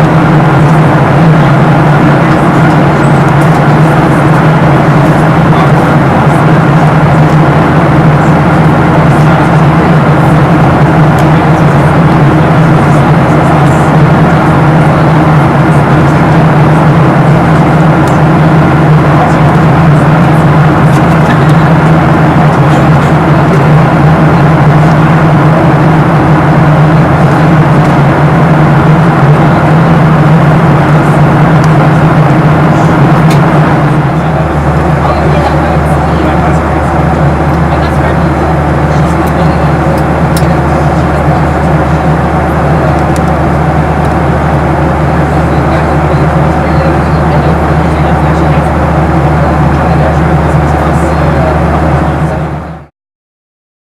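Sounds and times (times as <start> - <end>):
airflow rush in cabin: 0.0 - 52.9
jet engines droning: 0.0 - 52.9
low cabin hum: 0.0 - 52.9.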